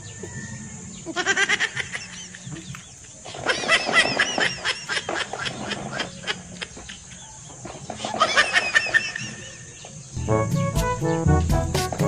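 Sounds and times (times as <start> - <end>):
small birds chirping: 0.0 - 3.5, 4.3 - 11.6.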